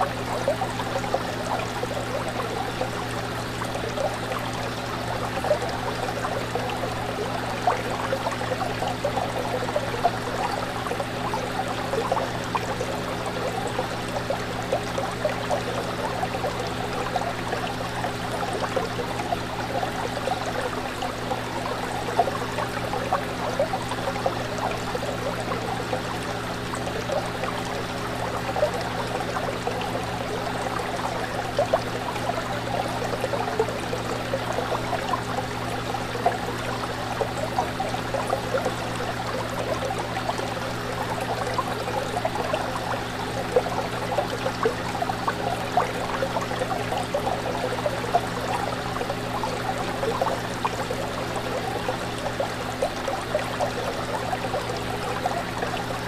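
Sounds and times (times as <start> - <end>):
aquarium pump humming: 0.0 - 56.0
fish tank water bubbling: 0.0 - 56.0
small water splashes: 0.0 - 56.0.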